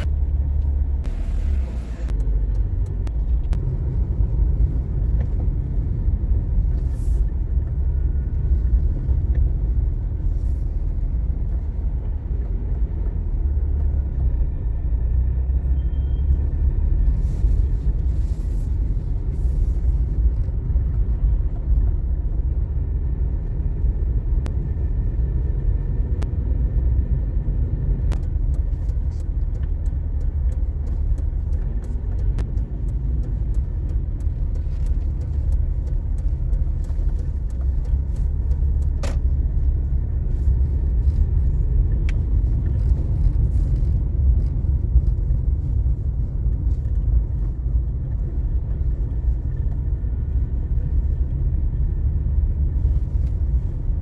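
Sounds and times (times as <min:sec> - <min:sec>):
low street rumble: 0:00.0 - 0:54.0.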